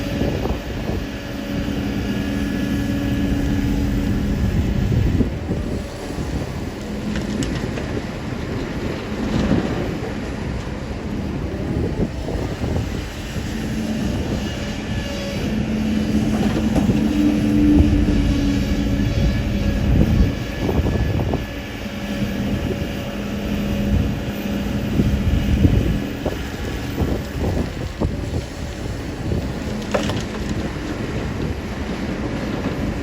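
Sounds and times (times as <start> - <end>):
excavator diesel engine under load: 0.0 - 33.0.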